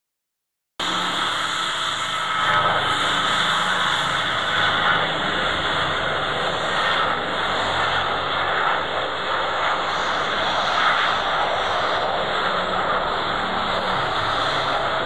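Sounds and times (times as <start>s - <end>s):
jet engines at takeoff power: 0.8s - 15.0s.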